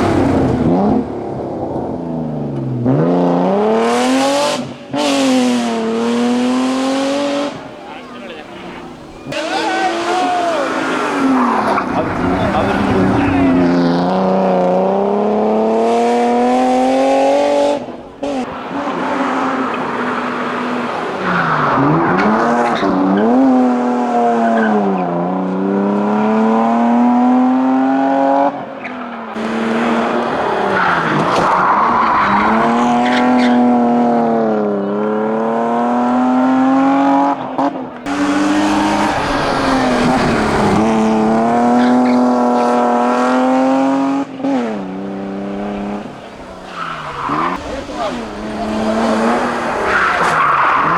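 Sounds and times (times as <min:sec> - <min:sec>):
race car engine revving: 0:00.0 - 0:50.9.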